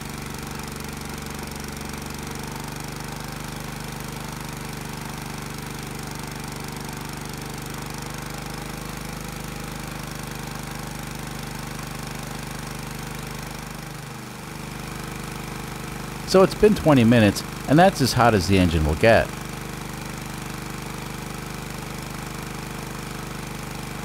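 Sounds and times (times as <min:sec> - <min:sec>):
small engine running steadily: 0:00.0 - 0:16.3, 0:17.4 - 0:17.7, 0:19.3 - 0:24.0.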